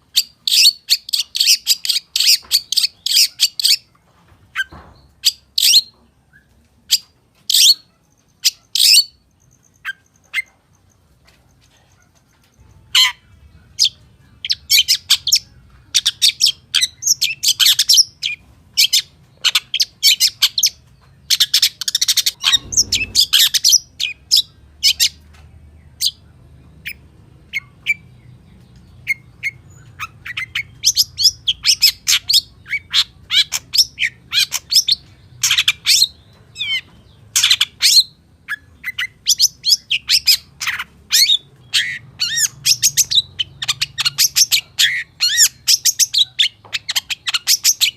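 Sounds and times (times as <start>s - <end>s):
bird singing chattering song: 0.1s - 11.1s, 11.8s - 47.9s.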